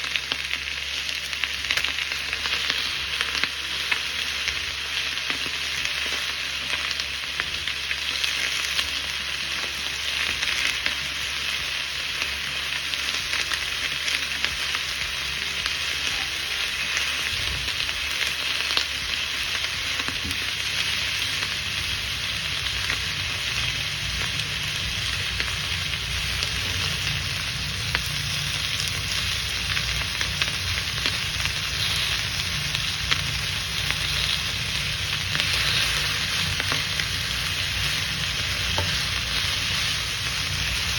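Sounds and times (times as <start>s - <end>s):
food sizzling in oil: 0.0s - 40.9s.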